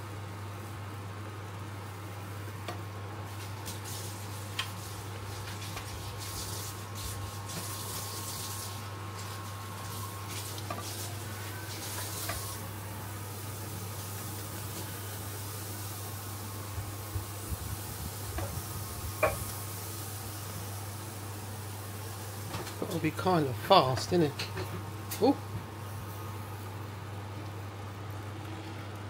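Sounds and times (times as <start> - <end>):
waffle batter sizzling: 0.0 - 29.0.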